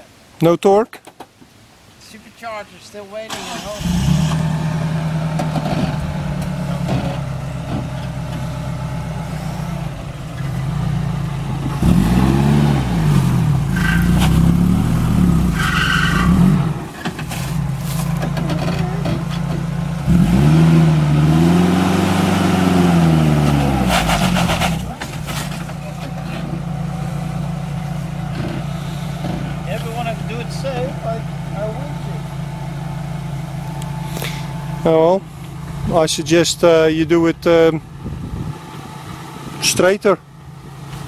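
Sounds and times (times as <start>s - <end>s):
van engine running under load: 3.4s - 41.0s.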